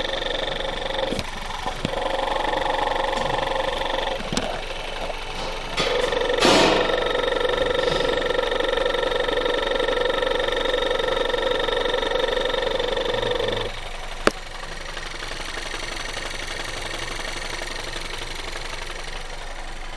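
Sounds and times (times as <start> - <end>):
car engine idling: 0.0 - 19.9
fuel pump knocking: 0.0 - 19.9.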